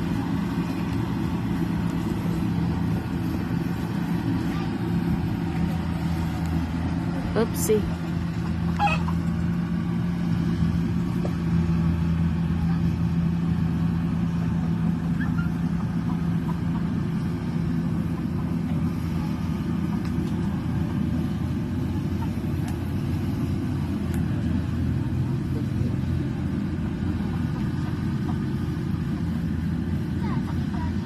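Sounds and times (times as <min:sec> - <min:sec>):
harvester engine droning: 0:00.0 - 0:31.0.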